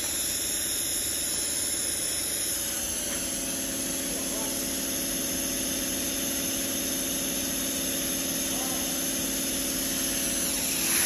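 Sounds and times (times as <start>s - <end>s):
spraying machine humming: 0.0s - 11.0s.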